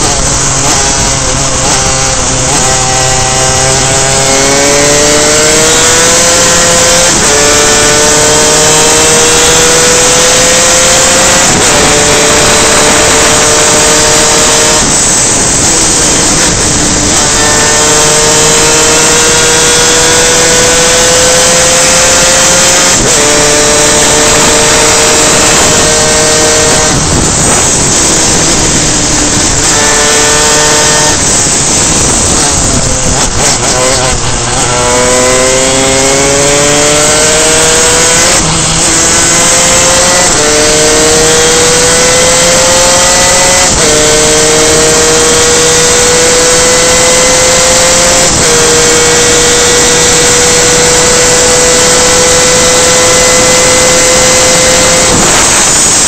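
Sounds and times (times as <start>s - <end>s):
kart engine revving with upshifts: 0.0s - 56.0s
rush of wind: 0.0s - 56.0s.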